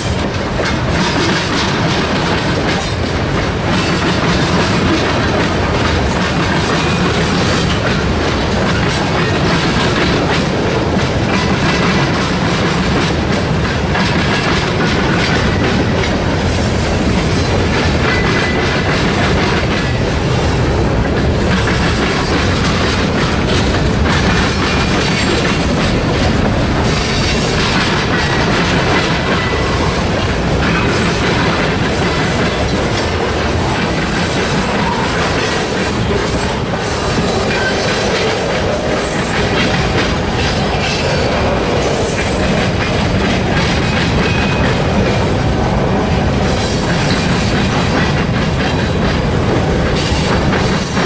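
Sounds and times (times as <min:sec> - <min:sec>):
train wheels rumbling on rail: 0:00.0 - 0:51.0
wheels clacking over rail joints: 0:00.0 - 0:51.0.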